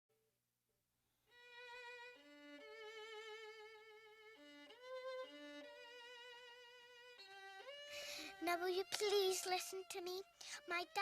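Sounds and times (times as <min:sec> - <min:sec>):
solo violin with vibrato: 0:01.3 - 0:11.0.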